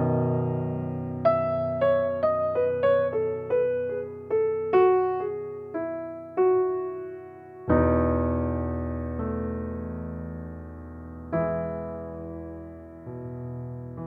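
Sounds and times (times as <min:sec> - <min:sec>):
electric piano music: 0:00.0 - 0:14.0.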